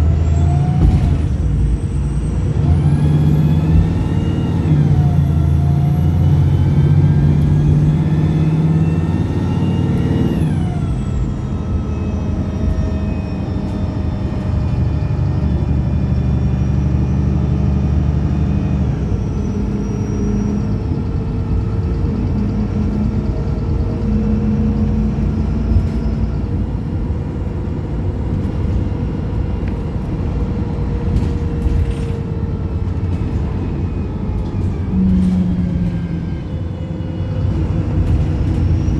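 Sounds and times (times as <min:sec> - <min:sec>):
bus engine revving: 0:00.0 - 0:38.9.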